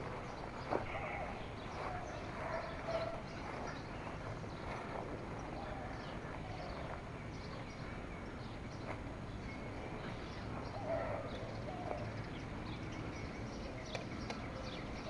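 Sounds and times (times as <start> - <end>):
birds chirping faintly: 0.0 - 15.0
outdoor background hiss: 0.0 - 15.0.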